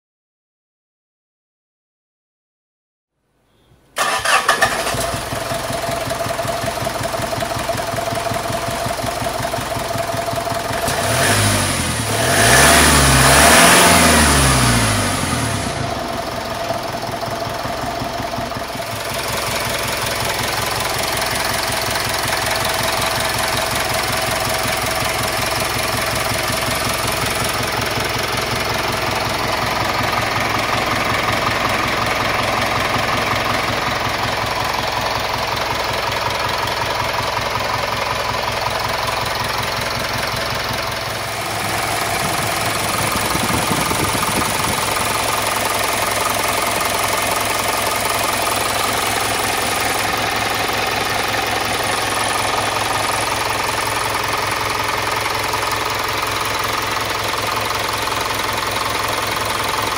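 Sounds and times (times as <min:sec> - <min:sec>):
diesel engine idling and revving: 0:04.0 - 0:59.9.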